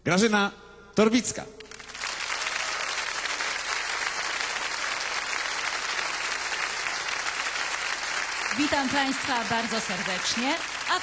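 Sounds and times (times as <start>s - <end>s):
crowd applauding: 1.6s - 11.0s.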